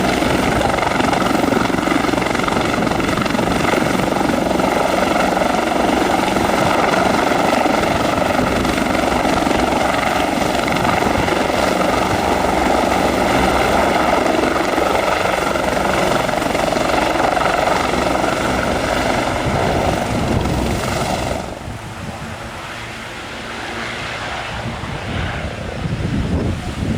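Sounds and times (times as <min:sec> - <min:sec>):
helicopter turbine and rotor: 0:00.0 - 0:26.9
high turbine whine: 0:00.0 - 0:26.9.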